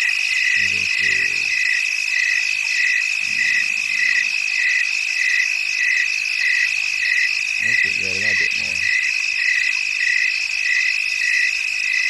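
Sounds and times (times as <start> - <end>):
frogs chirping: 0.0 - 12.0
insects trilling: 0.0 - 12.0.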